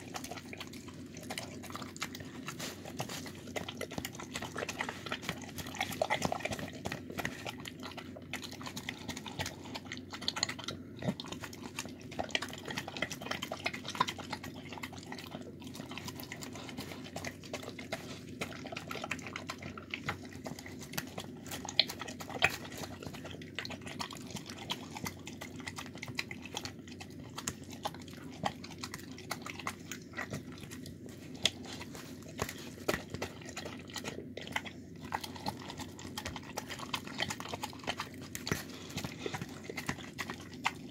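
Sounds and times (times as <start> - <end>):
dog chewing and licking: 0.0 - 40.9
steady low hum: 0.0 - 40.9.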